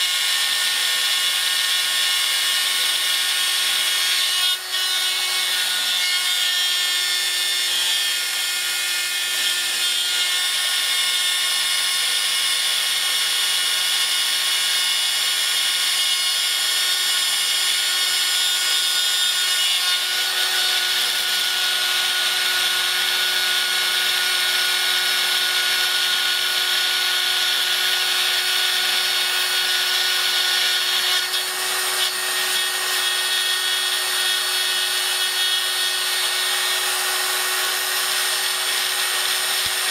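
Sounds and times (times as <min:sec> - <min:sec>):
rotary drill motor whine: 0:00.0 - 0:06.0, 0:06.6 - 0:39.9
cutter hissing on metal: 0:00.0 - 0:39.9.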